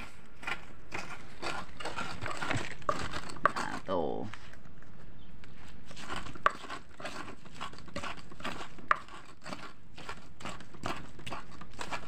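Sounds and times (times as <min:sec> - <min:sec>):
stone pestle grinding in mortar: 0:00.0 - 0:04.5, 0:05.8 - 0:12.0.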